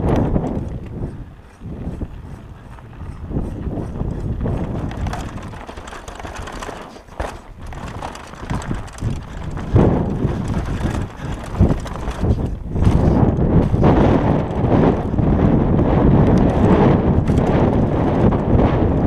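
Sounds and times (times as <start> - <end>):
bike rattling and knocking: 0.0 - 19.0
bike tyres crunching on dirt: 0.0 - 19.0.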